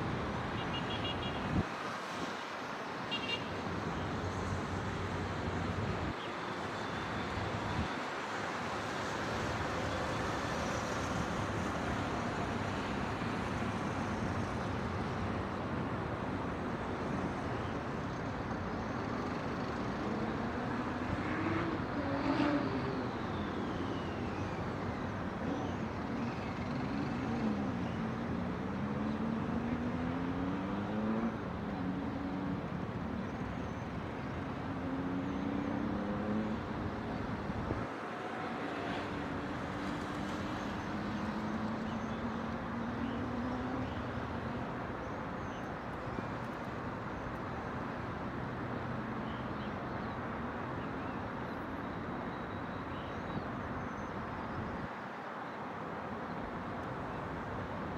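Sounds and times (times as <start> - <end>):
road traffic hum: 0.0 - 57.9.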